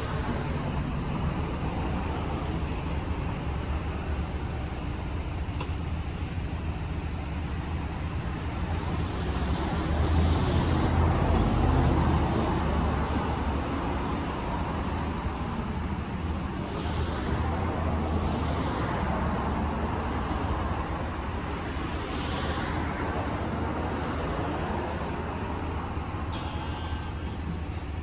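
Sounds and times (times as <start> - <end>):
car wash machine hum: 0.0 - 26.8.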